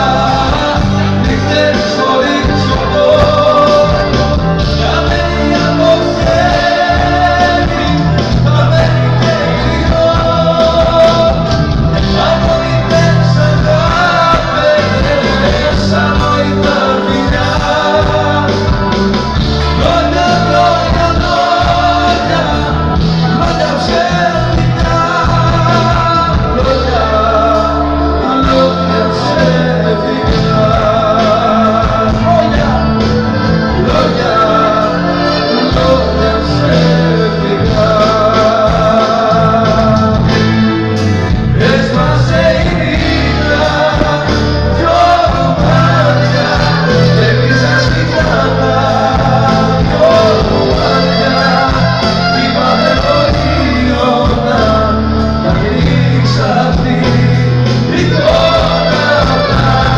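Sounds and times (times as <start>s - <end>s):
amplified band with heavy bass: 0.0s - 59.9s
men singing into microphones: 0.0s - 59.9s.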